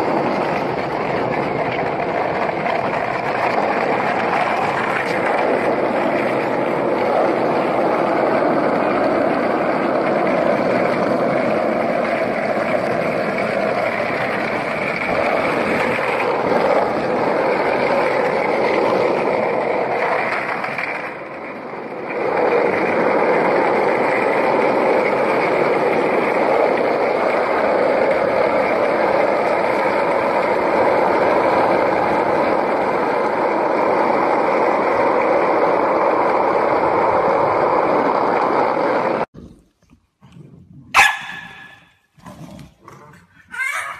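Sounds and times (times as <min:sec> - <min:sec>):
skateboard wheels rolling on asphalt: 0:00.0 - 0:43.9.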